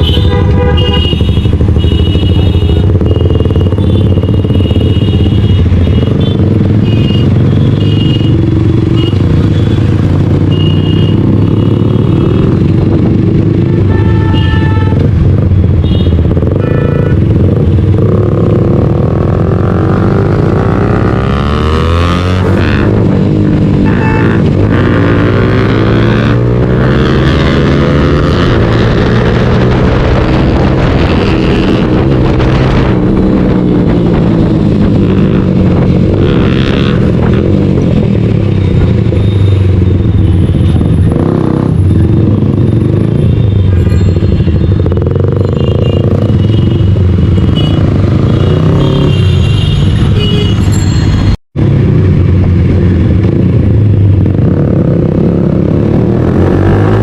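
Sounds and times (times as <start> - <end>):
motorcycle engine running hard: 0.0 - 51.0.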